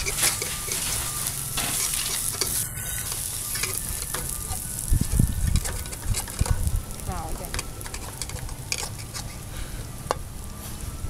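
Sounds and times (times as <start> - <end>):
metal spatula scraping pan: 0.0 - 9.5
omelette sizzling in oil: 0.0 - 11.0.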